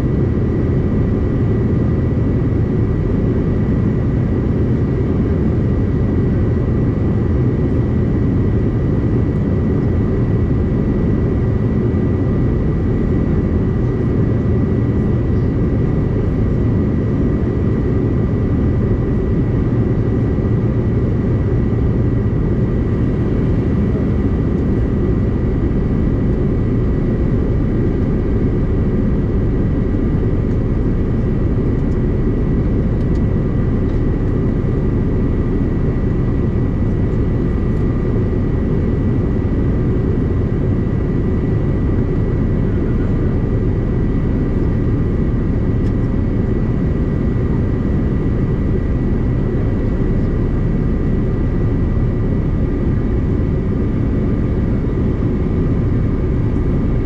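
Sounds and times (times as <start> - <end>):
jet cabin rumble: 0.0 - 57.0.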